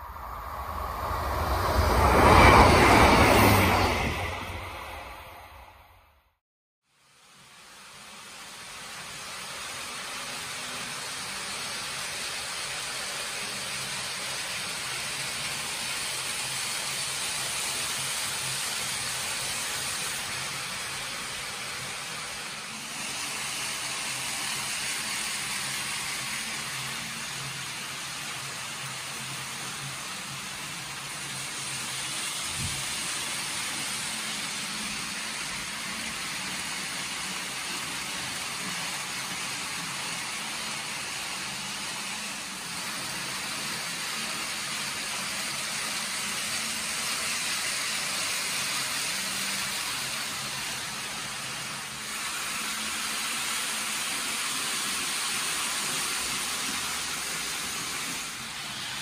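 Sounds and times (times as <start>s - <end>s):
model trains whirring on track: 0.0s - 6.2s, 6.9s - 59.0s.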